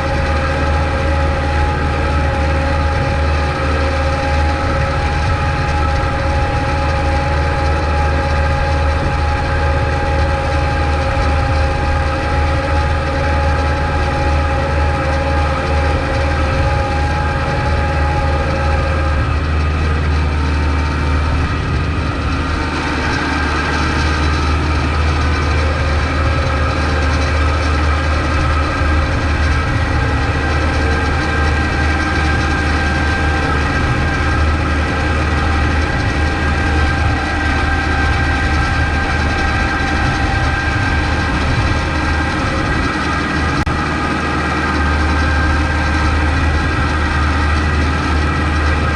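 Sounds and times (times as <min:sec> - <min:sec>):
steady whine: 0:00.0 - 0:48.9
tractor diesel engine drone: 0:00.0 - 0:48.9.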